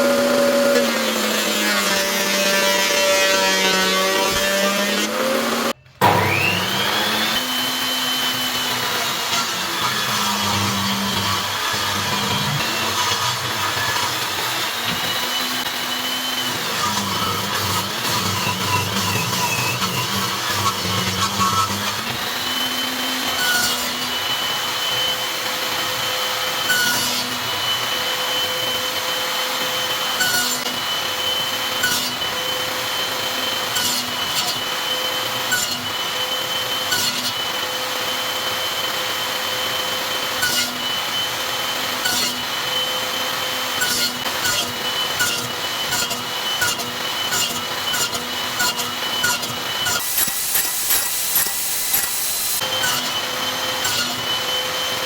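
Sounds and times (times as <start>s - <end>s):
electric power tool whining: 0.0s - 55.0s.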